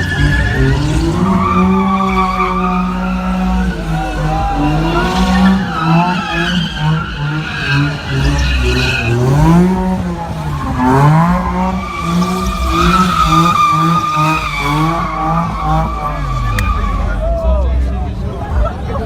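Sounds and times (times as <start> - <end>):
car engine revving hard: 0.0 - 17.2
tyres squealing: 0.0 - 17.2.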